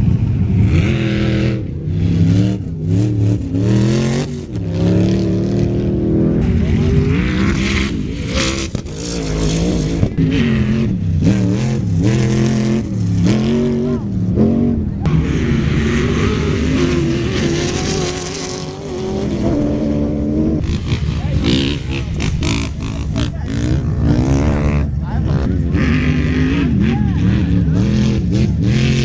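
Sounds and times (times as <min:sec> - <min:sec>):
off-road engines revving hard: 0:00.0 - 0:29.0.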